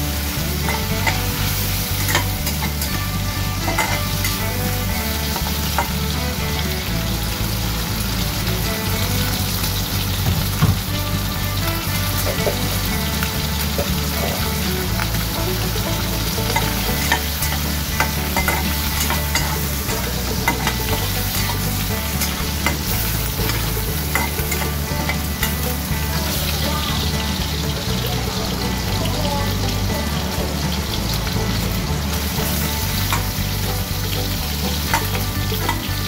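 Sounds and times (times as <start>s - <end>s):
metal spatula scraping pan: 0.0s - 7.4s, 8.4s - 27.7s, 30.9s - 36.0s
fat crackling: 0.0s - 36.0s
meat sizzling in hot oil: 0.0s - 36.0s.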